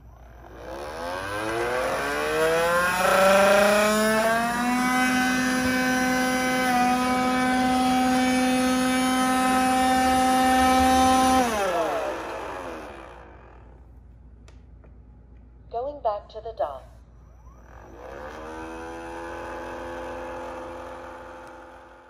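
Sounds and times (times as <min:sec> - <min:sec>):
robot vacuum fan whining: 0:00.0 - 0:14.0, 0:17.1 - 0:22.0.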